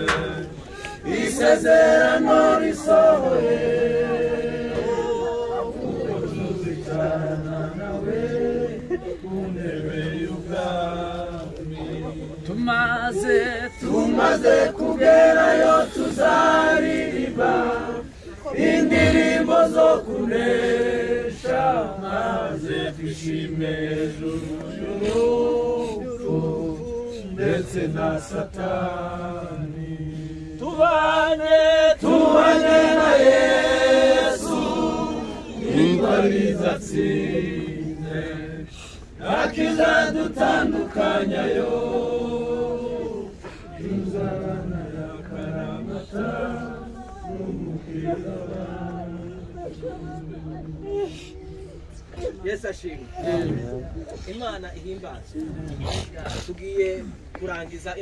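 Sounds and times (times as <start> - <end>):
crowd singing a hymn unaccompanied: 0.0 - 54.3, 55.1 - 58.0.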